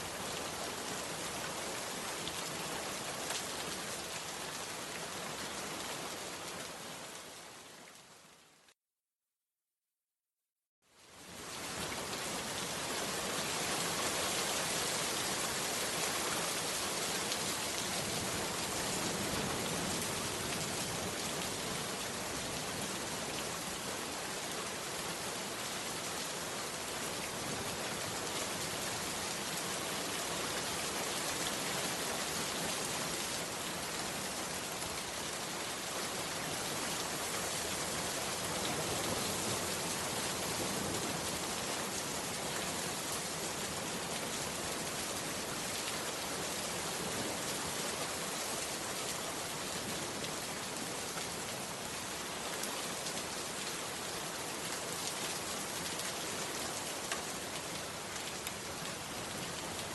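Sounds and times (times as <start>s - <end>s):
heavy rain falling: 11.2s - 59.9s.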